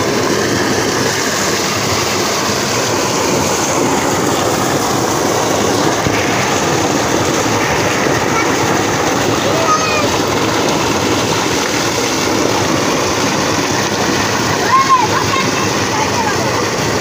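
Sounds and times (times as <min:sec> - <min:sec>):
water gushing into tank: 0:00.0 - 0:17.0.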